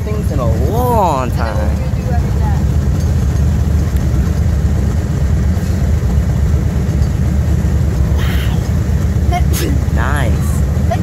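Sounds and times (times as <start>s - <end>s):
freight train deep rumble: 0.0s - 11.0s.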